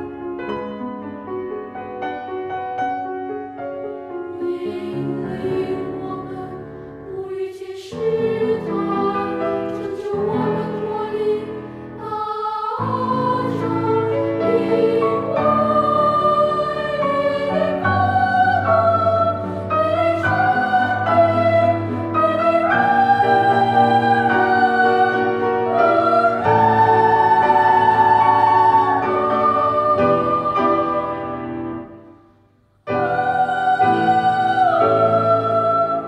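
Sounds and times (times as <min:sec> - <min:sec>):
piano accompaniment: 0:00.0 - 0:36.0
children's choir singing: 0:04.2 - 0:32.2, 0:32.9 - 0:36.0.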